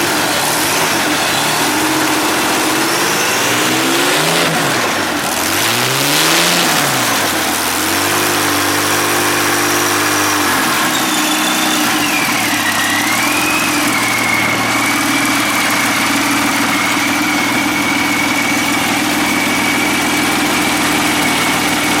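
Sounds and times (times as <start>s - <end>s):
aircraft engine revving and idling: 0.0s - 22.0s
high engine whine: 0.0s - 22.0s.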